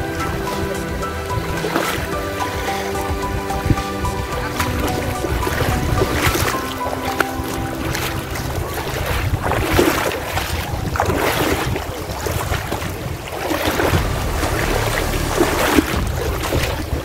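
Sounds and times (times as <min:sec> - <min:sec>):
river water rushing: 0:00.0 - 0:17.0
wind buffeting microphone: 0:00.0 - 0:17.0.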